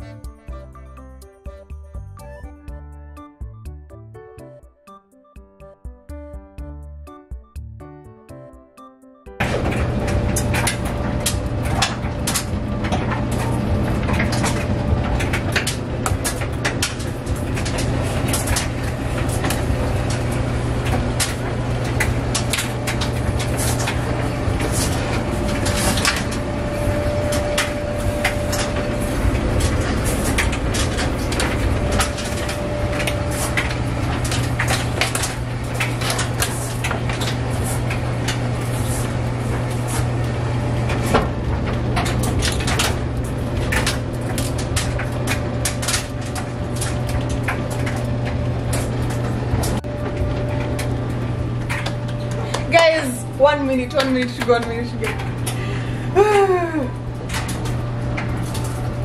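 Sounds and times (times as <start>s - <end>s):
clothes dryer motor hum: 0.0s - 2.8s, 9.4s - 59.0s.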